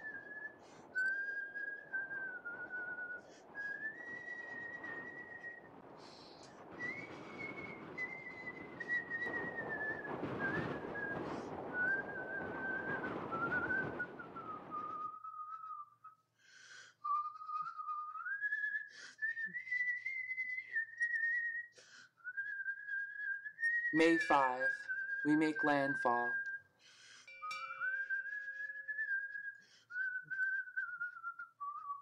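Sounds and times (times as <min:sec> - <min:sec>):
slow whistled tune: 0:00.0 - 0:32.0.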